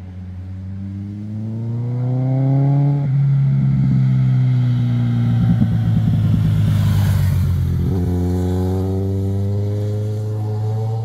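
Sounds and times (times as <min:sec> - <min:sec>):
motorcycle engine pulling away: 0:00.7 - 0:11.0.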